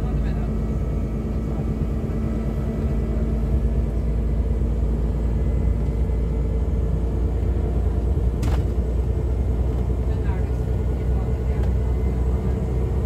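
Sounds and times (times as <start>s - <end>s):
coach engine drone: 0.0s - 13.0s
road rumble: 0.0s - 13.0s.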